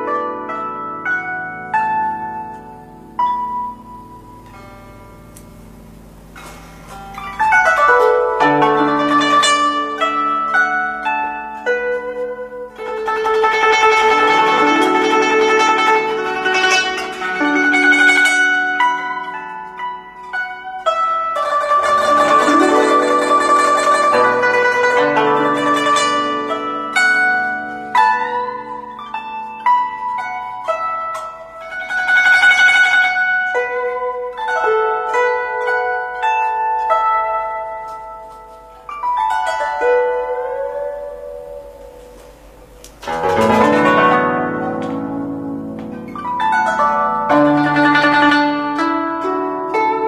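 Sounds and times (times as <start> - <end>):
plucked zither notes: 0.0 - 50.0.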